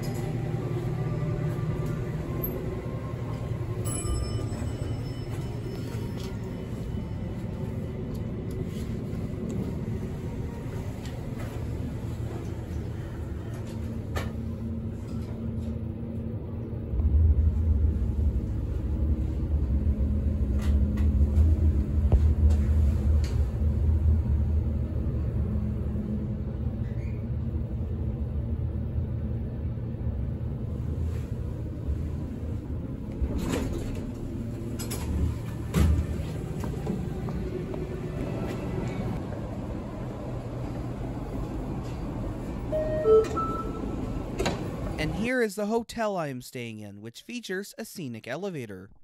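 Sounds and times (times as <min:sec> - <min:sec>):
elevator rumble and hum: 0:00.0 - 0:45.4.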